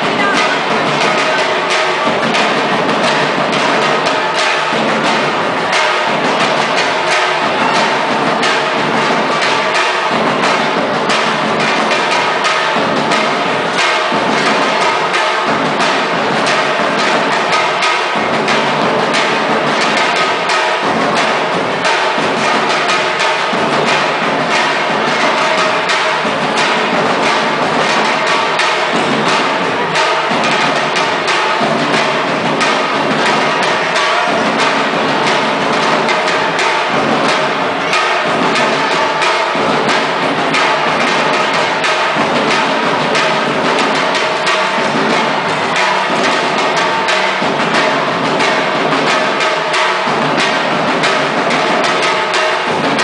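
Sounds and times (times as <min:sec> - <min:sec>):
drum group playing: 0:00.0 - 0:53.0.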